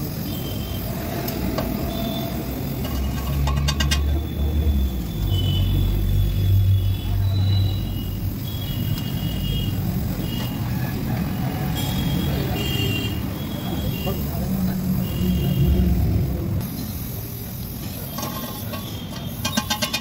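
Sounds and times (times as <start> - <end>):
gas torch flame rushing: 0.0 - 20.0.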